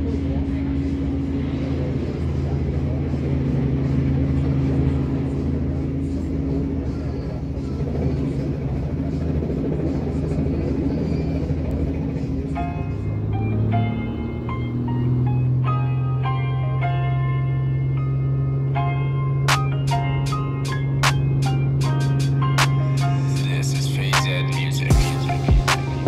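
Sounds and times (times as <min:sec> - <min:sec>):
helicopter engine and rotors droning: 0:00.0 - 0:26.0.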